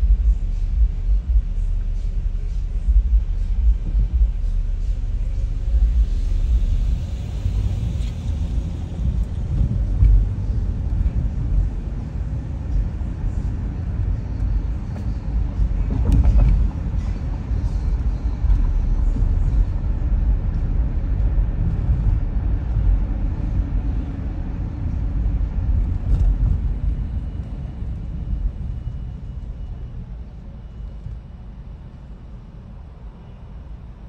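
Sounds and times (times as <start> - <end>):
car tyres and engine rumble: 0.0 - 34.0.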